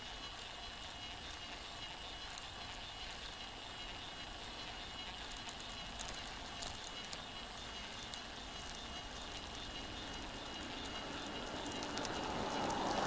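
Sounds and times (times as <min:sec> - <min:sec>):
bicycle tyres on rough asphalt: 0:00.0 - 0:13.0
bike rattling and clicking: 0:00.0 - 0:13.0.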